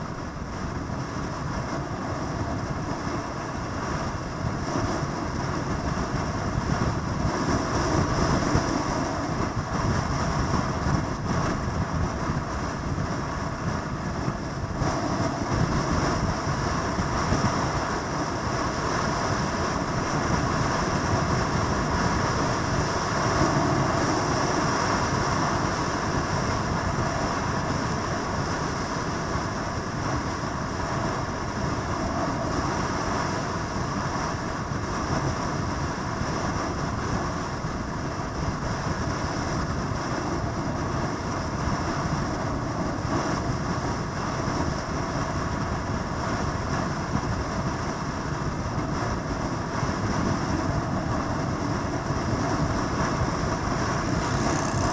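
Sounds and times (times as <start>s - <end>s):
vehicle rumble: 0.0s - 54.9s.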